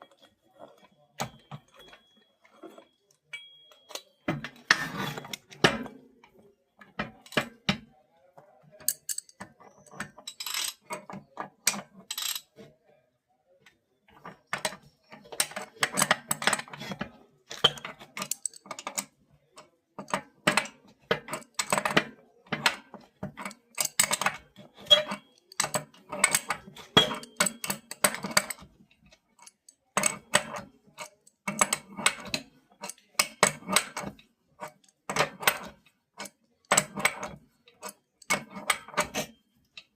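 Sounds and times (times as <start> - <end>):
metal tools clinking and knocking: 0.0 - 7.8, 8.8 - 12.6, 14.2 - 19.1, 20.0 - 39.9.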